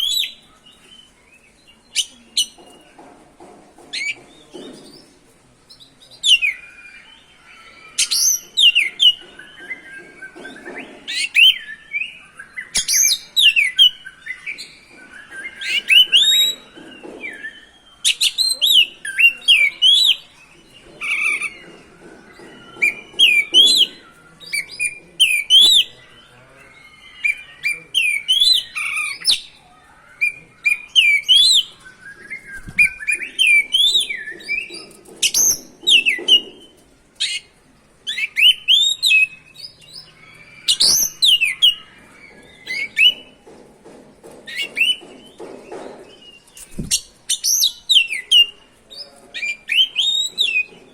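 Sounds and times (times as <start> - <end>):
songbird whistling and chirping: 0.0 - 2.6, 5.8 - 20.3, 21.0 - 43.4, 44.5 - 50.8.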